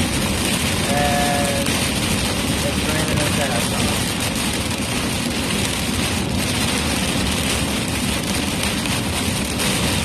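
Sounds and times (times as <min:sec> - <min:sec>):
heavy rain on a vehicle: 0:00.0 - 0:10.0
tyre and road noise: 0:00.0 - 0:10.0.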